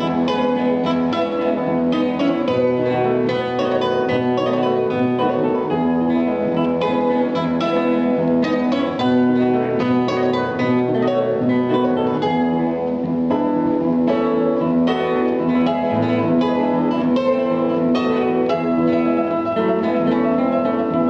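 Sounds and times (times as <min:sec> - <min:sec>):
classical guitar duet: 0:00.0 - 0:21.0.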